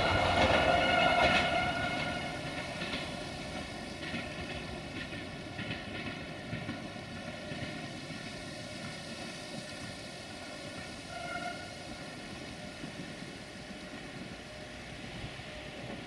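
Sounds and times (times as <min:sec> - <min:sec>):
diesel train engine drone: 0:00.0 - 0:16.0
wheels on rails: 0:00.0 - 0:16.0.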